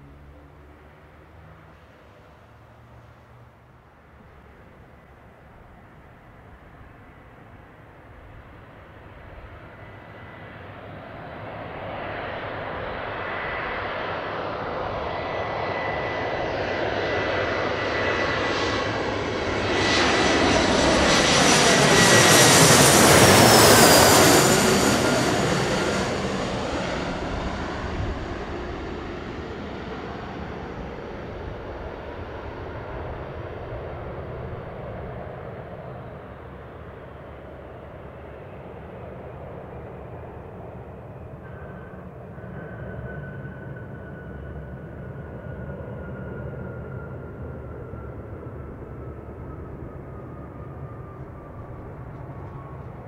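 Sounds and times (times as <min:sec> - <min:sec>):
jet engines whining overhead: 0:04.3 - 0:53.0.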